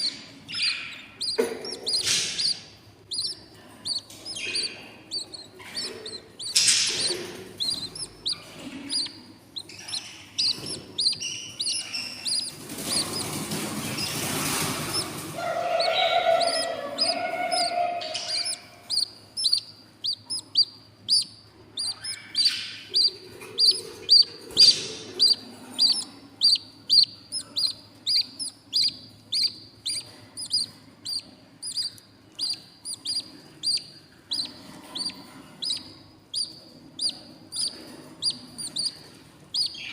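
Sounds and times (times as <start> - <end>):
budgie chicks cheeping: 0.0 - 39.9.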